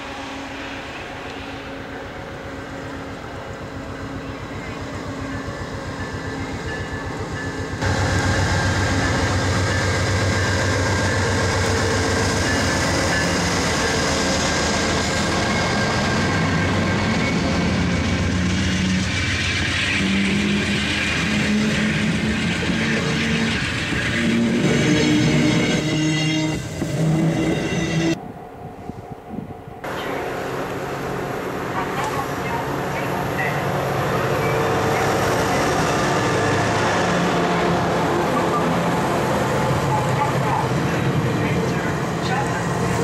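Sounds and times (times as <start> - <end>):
diesel locomotive passing: 0.0 - 43.0
train wheels rumbling on rails: 0.0 - 43.0.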